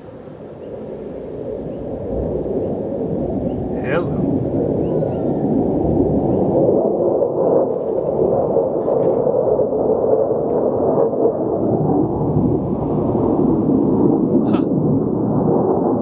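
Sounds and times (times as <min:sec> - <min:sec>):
jet engines rushing overhead: 0:00.0 - 0:16.0.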